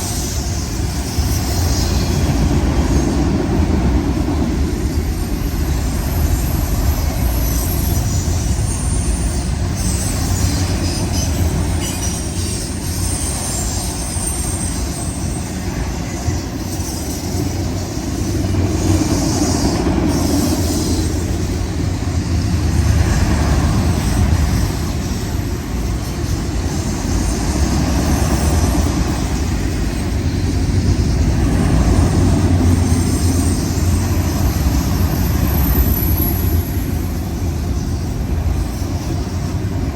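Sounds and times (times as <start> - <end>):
high wheel squeal: 0.0 - 39.9
train wheels rumbling on rail: 0.0 - 39.9.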